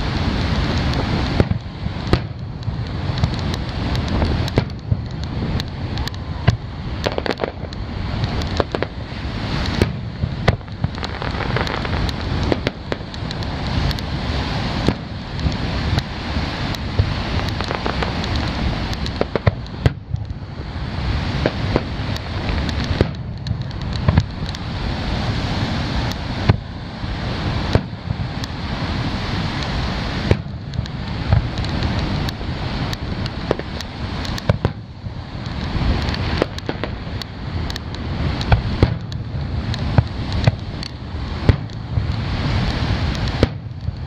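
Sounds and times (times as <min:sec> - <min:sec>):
low rumble: 0:00.0 - 0:44.0
firework shells bursting: 0:00.1 - 0:20.4, 0:21.2 - 0:24.6, 0:27.6 - 0:28.6, 0:29.6 - 0:44.0.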